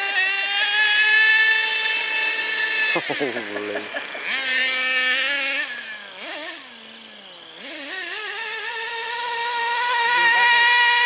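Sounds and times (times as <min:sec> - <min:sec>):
small nitro engine revving: 0:00.0 - 0:11.0.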